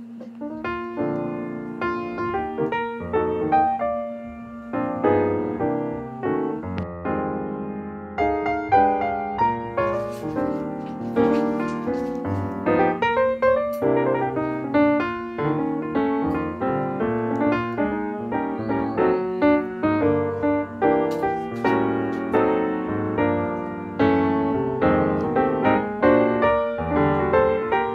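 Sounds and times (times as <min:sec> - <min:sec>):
instrumental music: 0:00.0 - 0:27.9.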